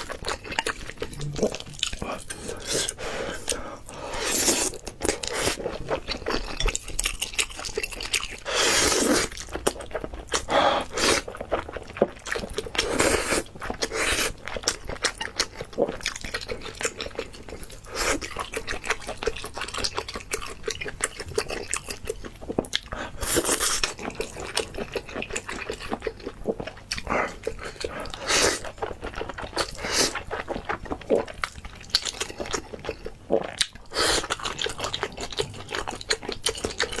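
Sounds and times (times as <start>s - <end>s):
wet chewing and smacking: 0.0s - 37.0s.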